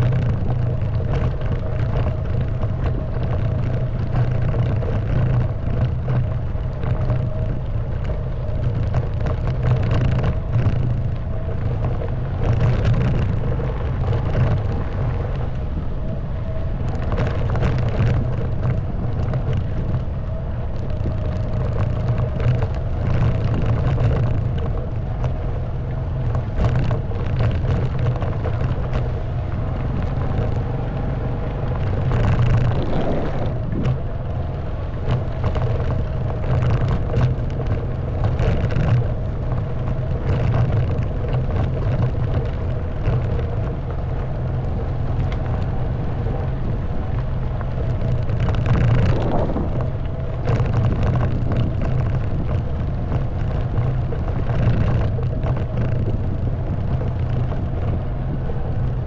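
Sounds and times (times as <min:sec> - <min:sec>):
knocks and rattles on rough track: 0:00.0 - 0:59.0
motorbike engine running: 0:00.0 - 0:59.0.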